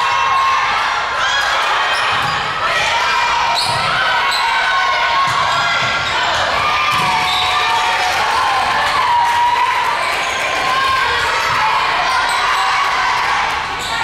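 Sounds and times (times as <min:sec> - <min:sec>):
crowd noise: 0:00.0 - 0:14.0.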